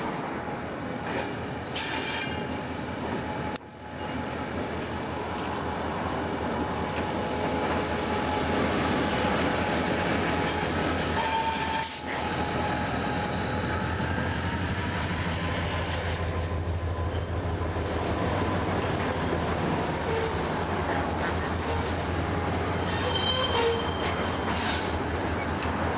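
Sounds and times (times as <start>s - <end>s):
train rumbling: 0.0s - 25.9s
train wheels squealing: 0.0s - 25.9s.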